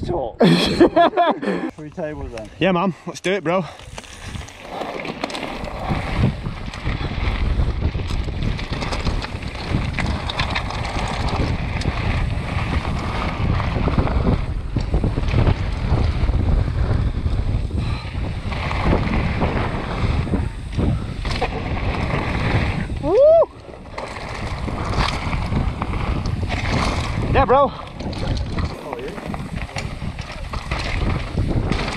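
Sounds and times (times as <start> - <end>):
bike tyres crunching on gravel: 3.5 - 31.9
bike clicks and rattles: 3.6 - 31.9
wind buffeting microphone: 3.6 - 31.9.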